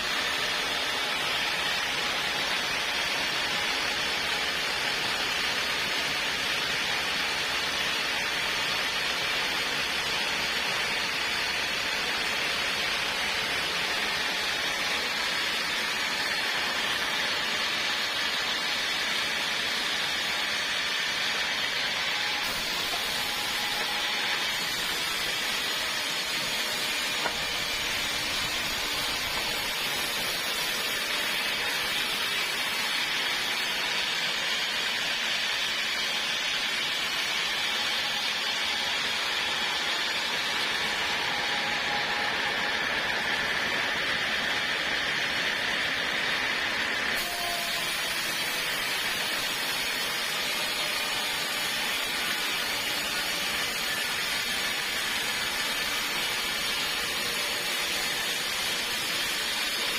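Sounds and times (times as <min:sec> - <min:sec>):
sawmill blade cutting log: 0:00.0 - 0:59.9.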